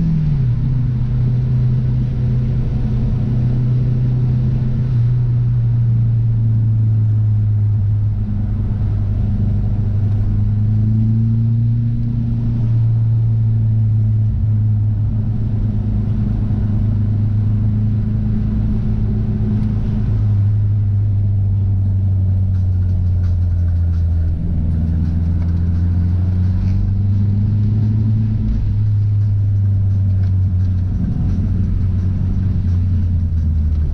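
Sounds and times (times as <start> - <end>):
car engine drone: 0.0 - 33.9
road noise: 0.0 - 33.9.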